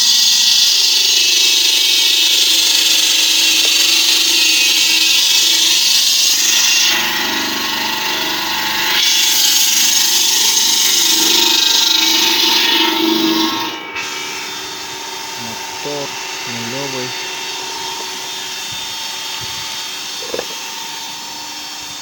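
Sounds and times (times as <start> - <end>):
stone-cutting saw grinding: 0.0 - 22.0.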